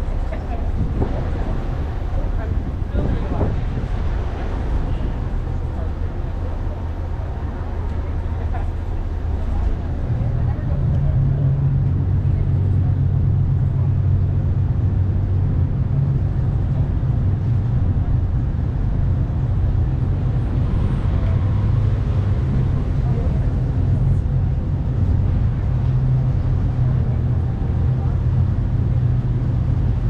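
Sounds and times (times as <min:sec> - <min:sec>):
ferry engines low drone: 0:00.0 - 0:30.0.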